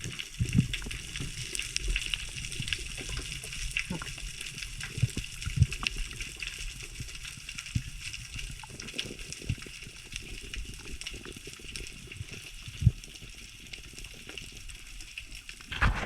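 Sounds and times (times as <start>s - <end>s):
underwater crackle of clicks: 0.0s - 16.0s.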